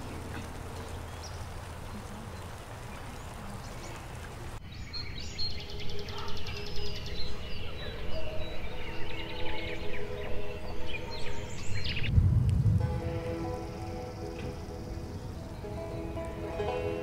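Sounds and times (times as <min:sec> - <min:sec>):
birds chirping: 0:00.0 - 0:17.0
soft sustained music notes: 0:00.0 - 0:17.0
steady outdoor hiss: 0:00.0 - 0:17.0.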